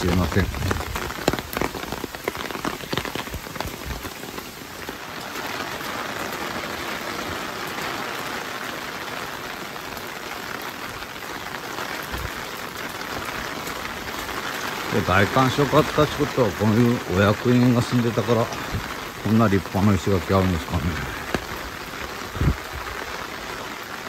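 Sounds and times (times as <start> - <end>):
sharp ticks of raindrops: 0.0 - 24.0
steady rain falling: 0.0 - 24.0.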